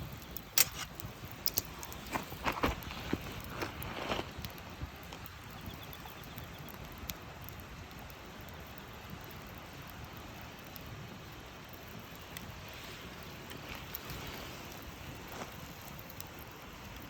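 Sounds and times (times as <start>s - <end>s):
campfire crackling and hissing: 0.0s - 17.0s.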